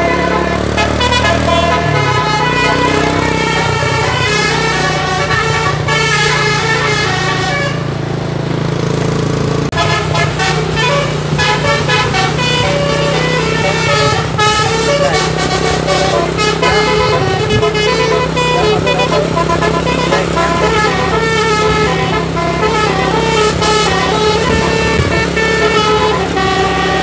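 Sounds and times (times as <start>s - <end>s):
musical air horn tune: 0.0s - 8.2s, 9.7s - 27.0s.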